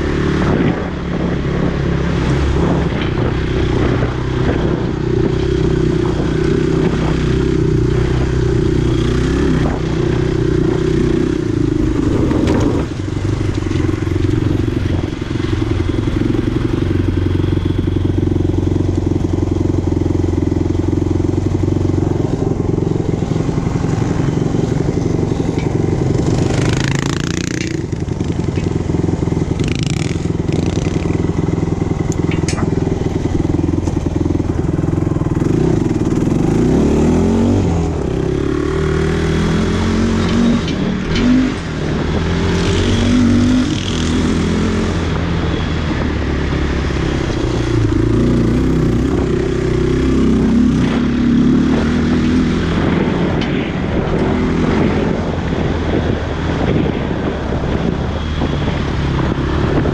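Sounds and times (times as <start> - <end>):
quad engine revving under load: 0.0 - 59.9.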